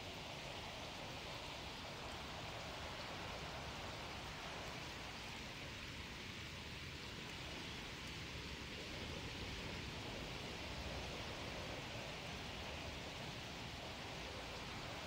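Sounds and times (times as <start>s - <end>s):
stream running water: 0.0s - 15.0s.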